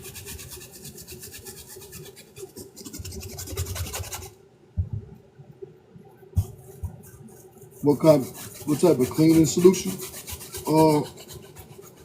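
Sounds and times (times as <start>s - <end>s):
brush scrubbing a sneaker: 0.0s - 4.3s, 6.4s - 12.0s.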